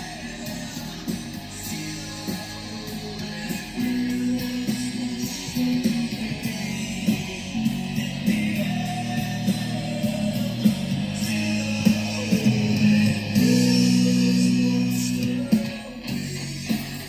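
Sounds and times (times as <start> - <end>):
guitar music through loudspeaker: 0.0 - 17.0.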